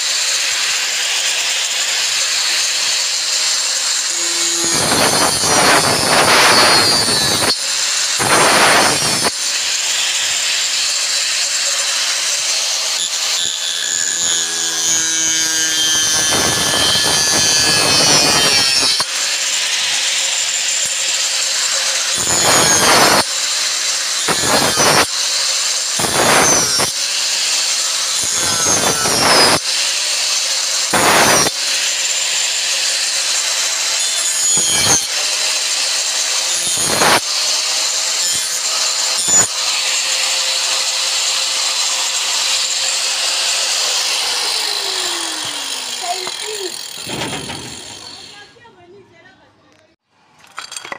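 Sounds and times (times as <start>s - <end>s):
angle grinder whining: 0.0s - 48.7s
grinder disc cutting wood: 0.0s - 48.7s.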